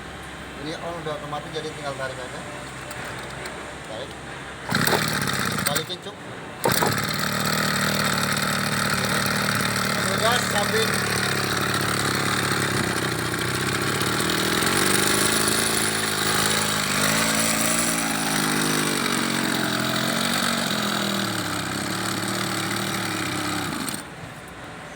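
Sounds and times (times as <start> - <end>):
small two-stroke engine revving: 2.9 - 3.5, 4.6 - 24.2.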